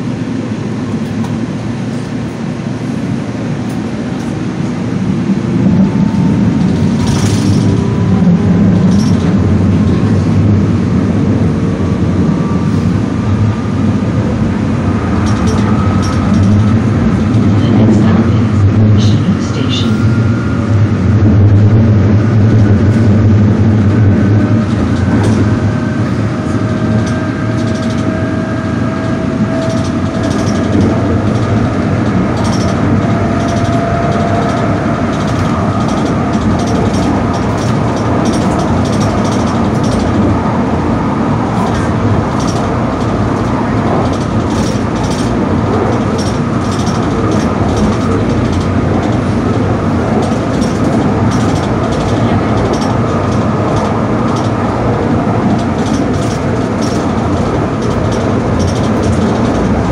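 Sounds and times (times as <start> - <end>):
train running: 0.0 - 59.9
rising whine: 3.5 - 55.5.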